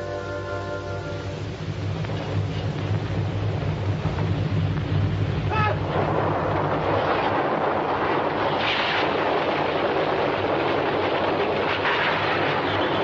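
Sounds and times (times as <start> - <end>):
loud steady roaring: 0.0 - 13.0.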